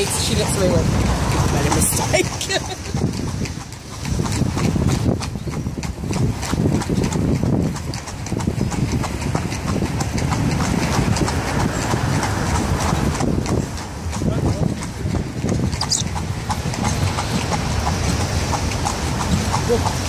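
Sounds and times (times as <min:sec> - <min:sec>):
horse hooves clip-clopping on street: 0:00.0 - 0:20.0.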